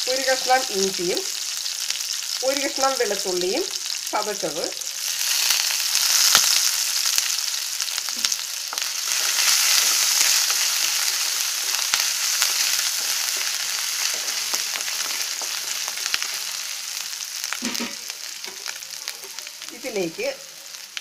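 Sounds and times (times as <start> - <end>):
hot oil sizzling in a pan: 0.0 - 21.0.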